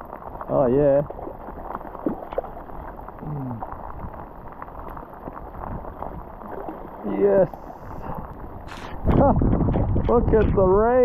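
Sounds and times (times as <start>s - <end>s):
rain pattering on water: 0.0s - 11.0s.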